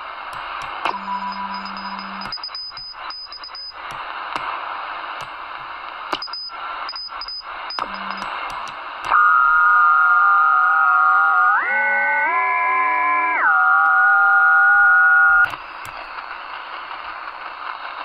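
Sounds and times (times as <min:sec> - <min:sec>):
radio static hiss: 0:00.0 - 0:11.7, 0:14.7 - 0:18.0.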